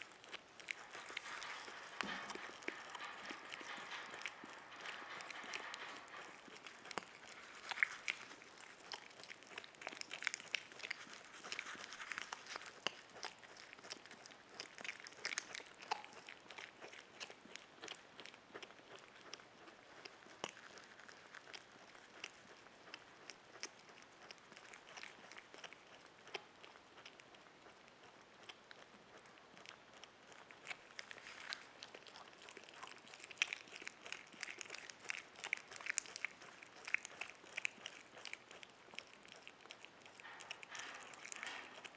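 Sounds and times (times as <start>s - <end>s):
animal chewing with crunching: 0.0s - 41.9s.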